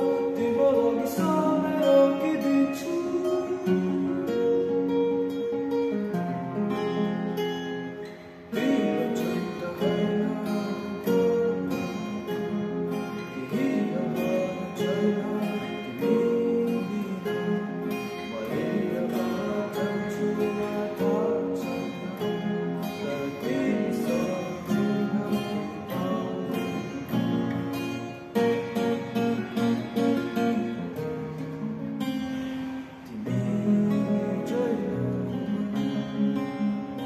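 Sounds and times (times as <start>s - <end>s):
acoustic guitars strumming: 0.0s - 37.0s.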